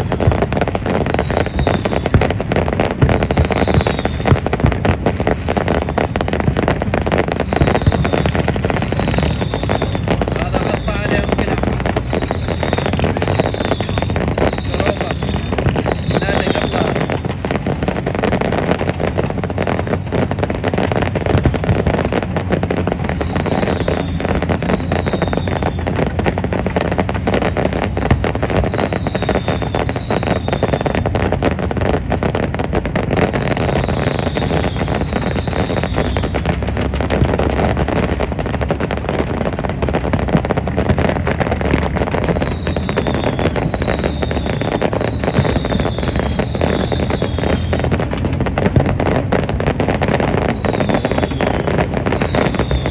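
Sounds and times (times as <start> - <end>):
fireworks crackling and popping: 0.0 - 52.9
fireworks whistles: 0.0 - 52.9.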